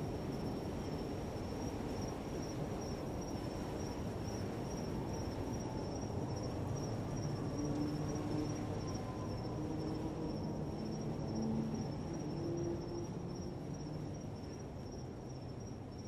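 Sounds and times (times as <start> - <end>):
cricket trill: 0.0 - 16.0.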